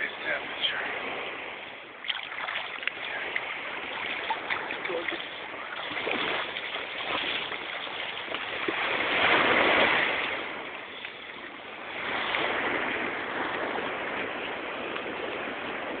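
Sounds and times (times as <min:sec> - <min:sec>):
sea water sloshing around wading person: 0:00.2 - 0:16.0.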